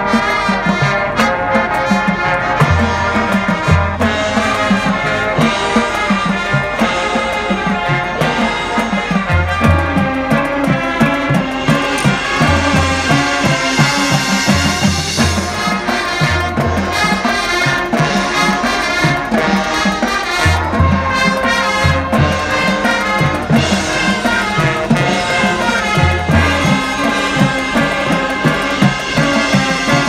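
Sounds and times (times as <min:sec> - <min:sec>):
marching band brass: 0:00.0 - 0:30.0.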